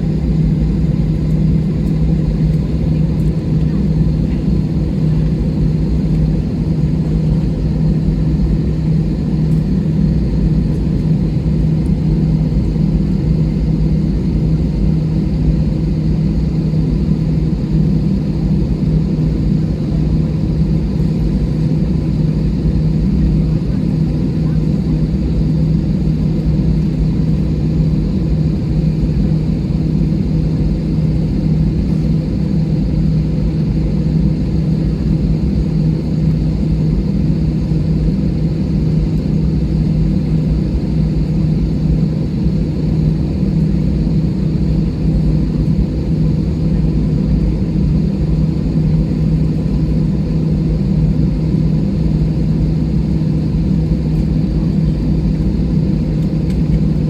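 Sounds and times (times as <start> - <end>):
jet engines idling: 0.0 - 57.0.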